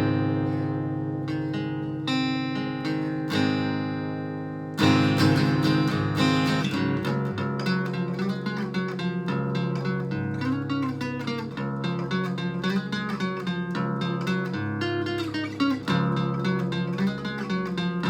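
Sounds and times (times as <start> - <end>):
amplified guitar strumming chords: 0.0 - 18.0.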